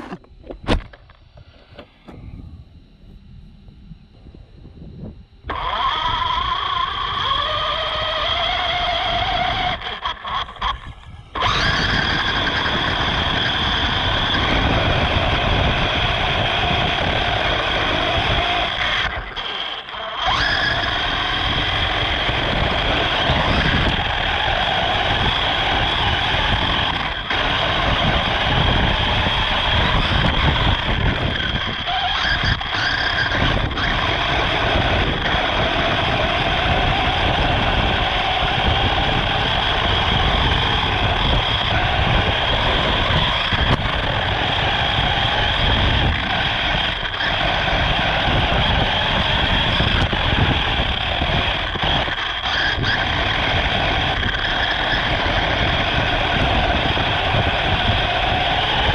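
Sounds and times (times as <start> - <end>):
rc car motor whining: 0.0 - 58.9
steady rumble: 0.0 - 58.9.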